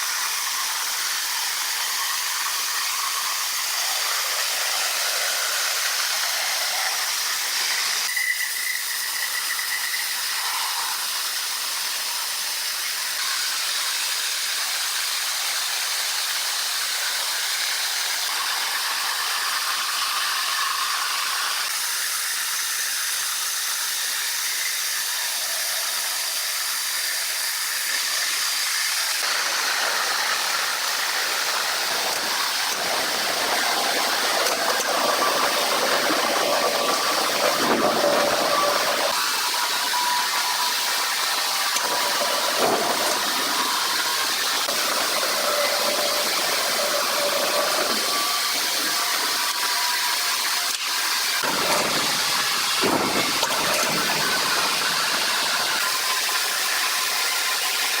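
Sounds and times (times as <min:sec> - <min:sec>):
sawmill machinery hissing: 0:00.0 - 0:58.0.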